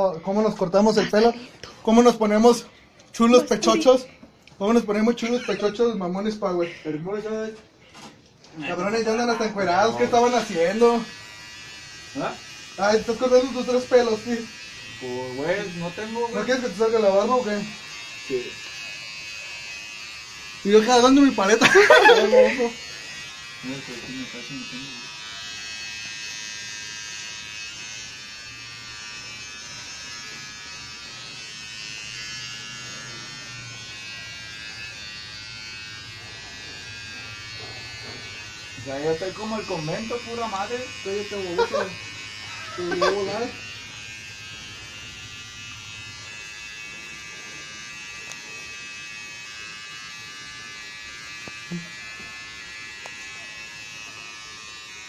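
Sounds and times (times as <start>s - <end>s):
electric hair clippers buzzing: 0.0s - 55.0s.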